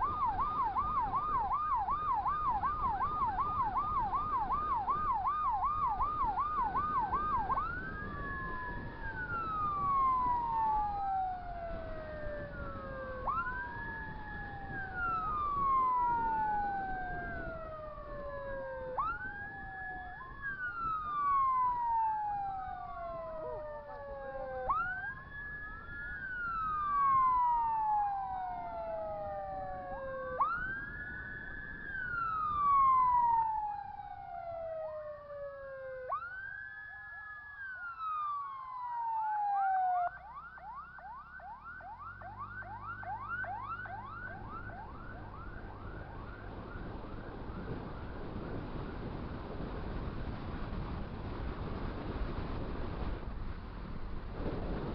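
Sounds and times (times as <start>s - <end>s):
electronic emergency sirens wailing: 0.0s - 50.0s.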